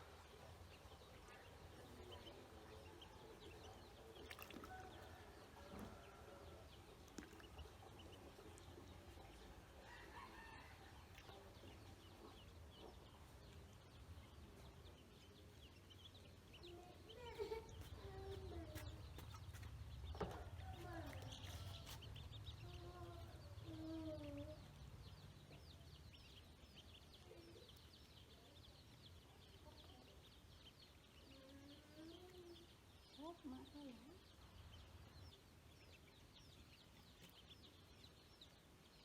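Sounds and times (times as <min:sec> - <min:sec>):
ducklings peeping: 0:00.1 - 0:05.5, 0:06.7 - 0:39.0.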